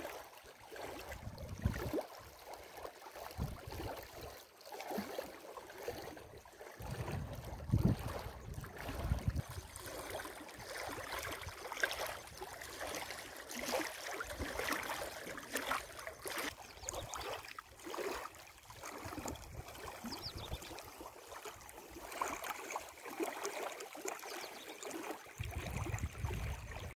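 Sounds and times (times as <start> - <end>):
small waves lapping and splashing: 0.0 - 26.9.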